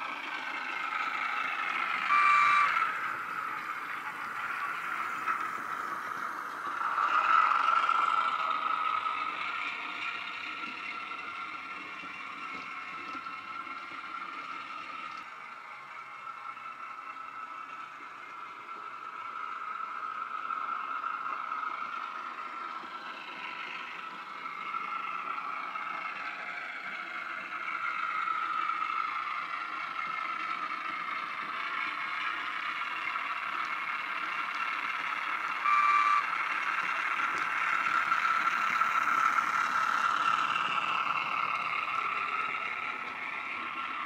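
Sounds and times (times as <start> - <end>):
model diesel engine sound: 0.0 - 44.0.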